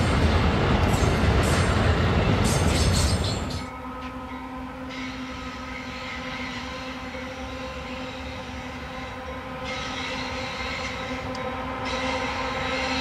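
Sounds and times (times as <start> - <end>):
distant locomotive engine drone: 0.0 - 13.0.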